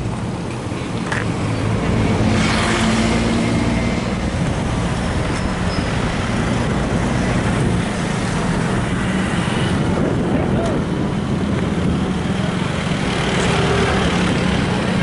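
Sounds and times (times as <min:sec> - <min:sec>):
vehicles passing on street: 0:00.0 - 0:15.0.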